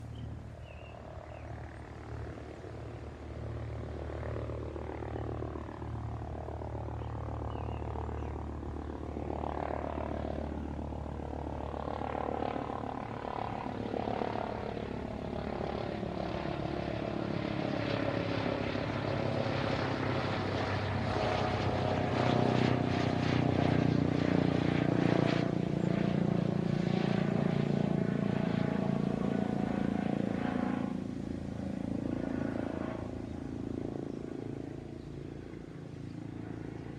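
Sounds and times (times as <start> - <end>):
helicopter flying over: 0.0 - 36.9.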